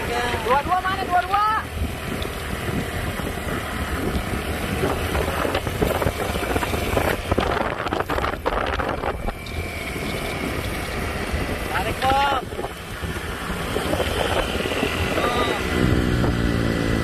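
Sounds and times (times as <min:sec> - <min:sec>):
road and tyre noise: 0:00.0 - 0:17.0
wind buffeting microphone: 0:00.0 - 0:17.0.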